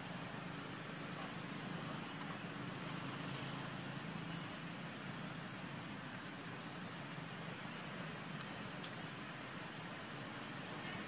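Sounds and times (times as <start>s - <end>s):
even hiss: 0.0s - 11.0s
high-pitched whine: 0.0s - 11.0s.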